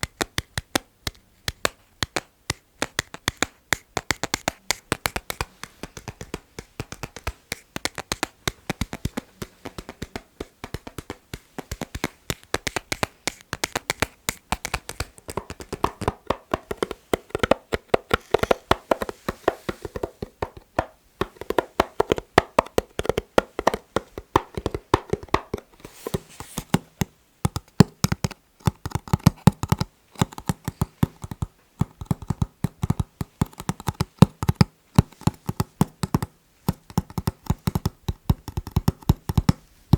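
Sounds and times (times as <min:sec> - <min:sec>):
rapid rhythmic tapping on objects: 0:00.0 - 0:39.7.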